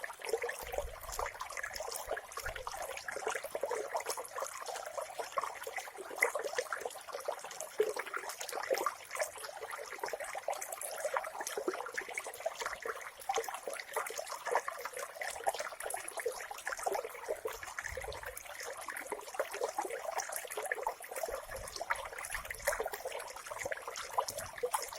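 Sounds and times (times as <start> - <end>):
water trickling and splashing: 0.0 - 24.9.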